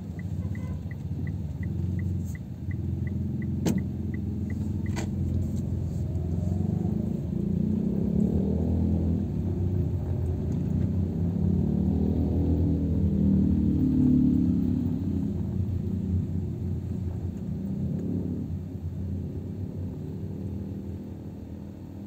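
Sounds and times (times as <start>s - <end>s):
car driving slowly: 0.0s - 22.0s.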